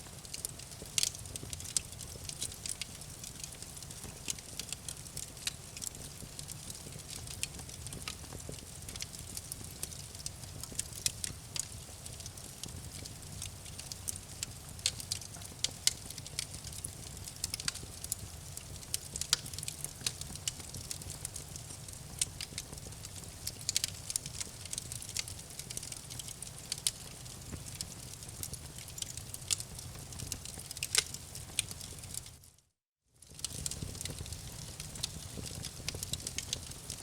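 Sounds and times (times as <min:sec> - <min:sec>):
campfire wood crackling and popping: 0:00.0 - 0:32.5, 0:33.2 - 0:37.0.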